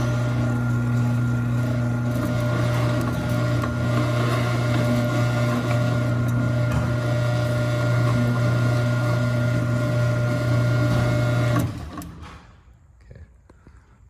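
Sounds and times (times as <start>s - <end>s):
garage door opener motor humming: 0.0s - 12.6s.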